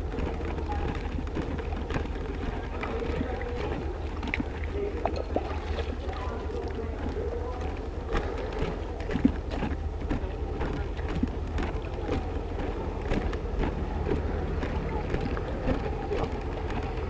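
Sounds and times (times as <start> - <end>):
small engine rumbling: 0.0 - 17.0.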